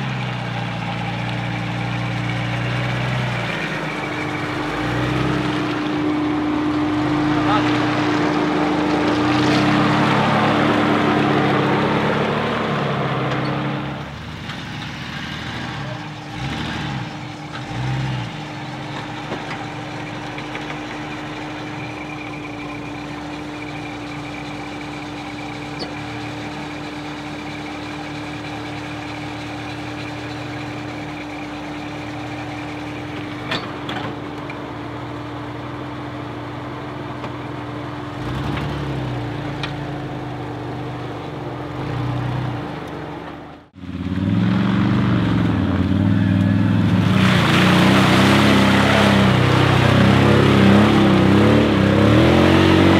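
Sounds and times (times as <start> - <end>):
off-road vehicle engine revving: 0.0 - 52.9.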